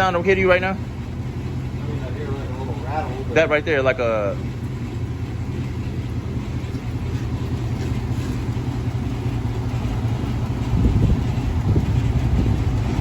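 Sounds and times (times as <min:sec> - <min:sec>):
car engine idling: 0:00.0 - 0:13.0
engine rattle and whirring: 0:00.0 - 0:13.0.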